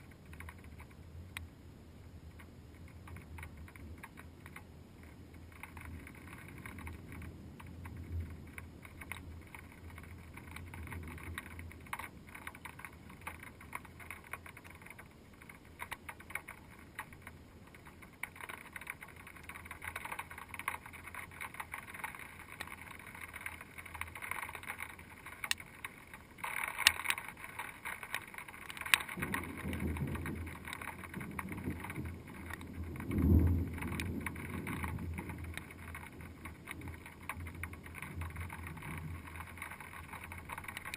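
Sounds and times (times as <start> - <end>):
rain on waterproof camera housing: 0.0 - 40.9.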